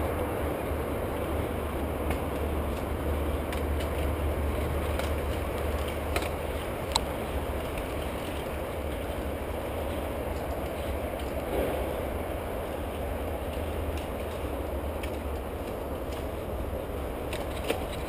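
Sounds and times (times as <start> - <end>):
bike tyres rumbling on dirt: 0.0 - 18.0
bike rattles and clicks: 0.5 - 18.0.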